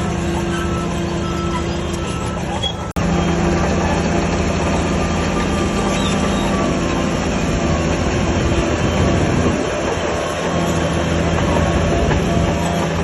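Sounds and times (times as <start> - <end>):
bulldozer diesel engine: 0.0 - 13.0.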